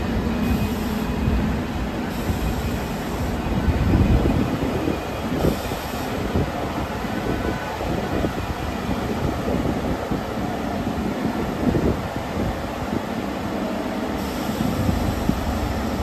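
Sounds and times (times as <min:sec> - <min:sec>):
subway car equipment humming: 0:00.0 - 0:16.0.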